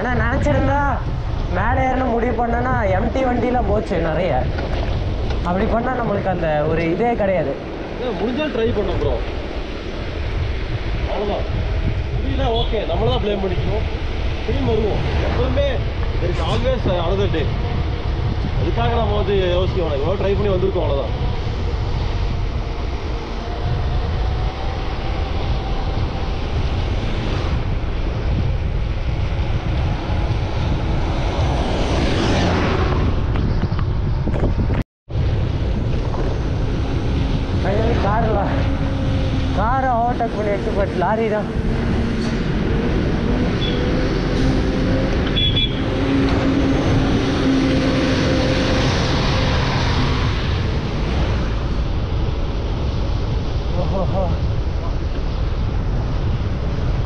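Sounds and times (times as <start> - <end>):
low rumble: 0.0 - 57.0
rushing noise: 0.0 - 57.0
wind buffeting microphone: 0.0 - 57.0.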